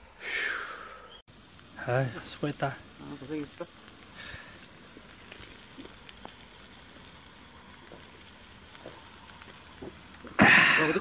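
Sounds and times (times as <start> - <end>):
pork sizzling on grill pan: 1.3 - 11.0.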